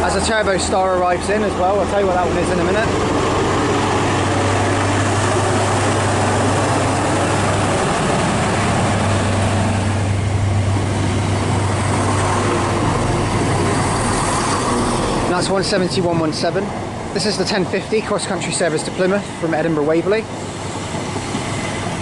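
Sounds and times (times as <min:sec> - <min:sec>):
diesel train engine drone: 0:00.0 - 0:22.0.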